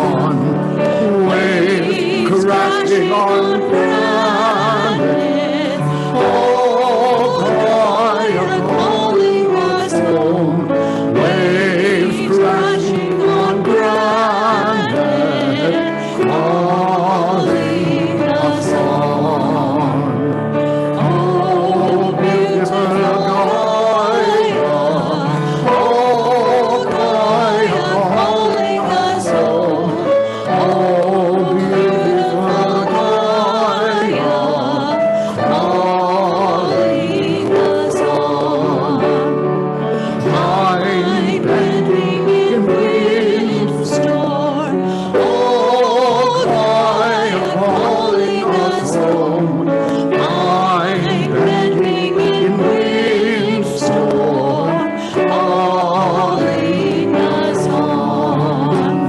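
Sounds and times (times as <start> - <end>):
instrumental accompaniment: 0.0 - 59.0
voices singing a hymn: 0.0 - 59.0.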